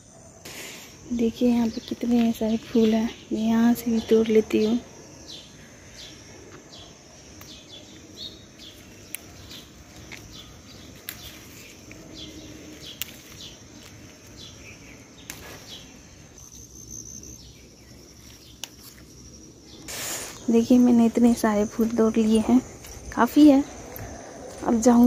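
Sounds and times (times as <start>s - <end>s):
high insect trill: 0.0s - 25.0s
small birds chirping: 0.0s - 25.0s.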